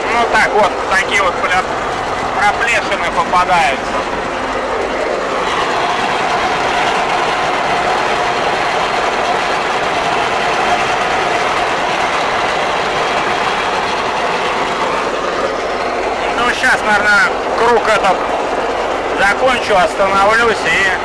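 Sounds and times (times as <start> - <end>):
windrower engine running: 0.0 - 21.0.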